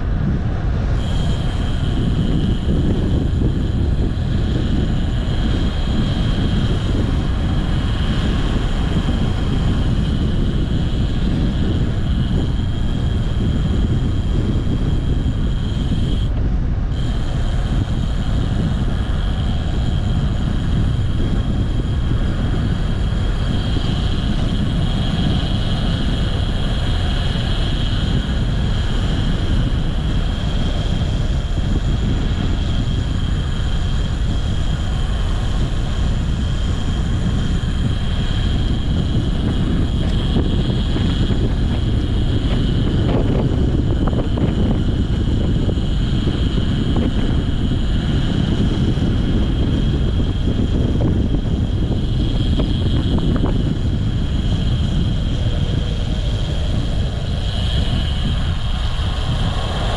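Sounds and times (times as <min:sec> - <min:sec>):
faint high whine: 0:00.0 - 0:59.9
wind buffeting microphone: 0:00.0 - 0:59.9.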